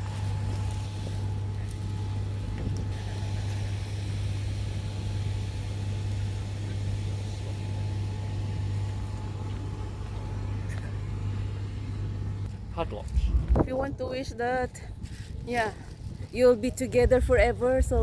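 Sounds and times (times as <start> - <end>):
faint steady whine: 0.0 - 18.0
low engine hum: 0.0 - 18.0.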